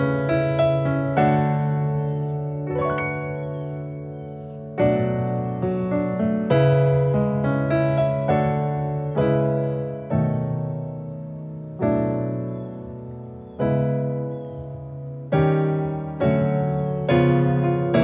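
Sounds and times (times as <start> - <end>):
slow soft piano chords: 0.0 - 18.0.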